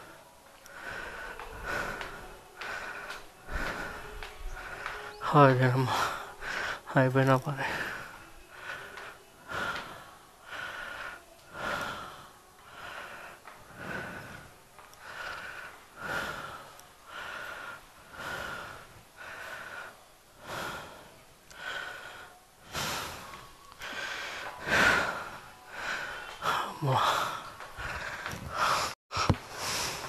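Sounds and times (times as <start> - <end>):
man breathing heavily: 0.0 - 30.0.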